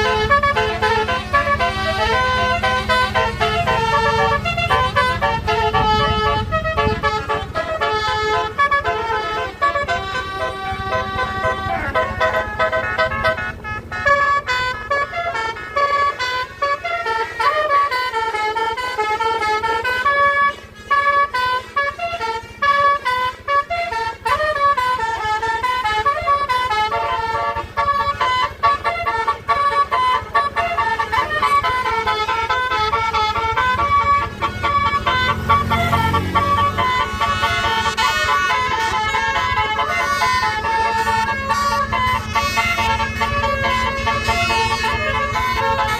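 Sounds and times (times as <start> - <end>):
bus horn playing a melody: 0.0 - 45.9.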